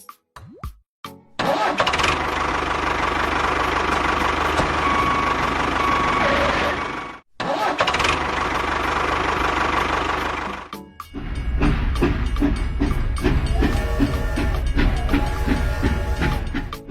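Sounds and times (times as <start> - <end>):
engine running with low pulse: 1.8 - 7.2, 8.0 - 16.9.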